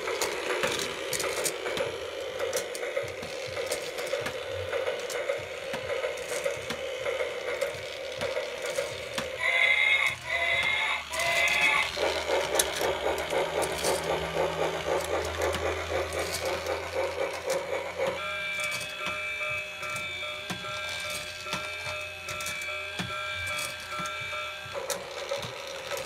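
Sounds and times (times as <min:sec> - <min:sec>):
toy motor gears clicking: 0:00.0 - 0:26.0.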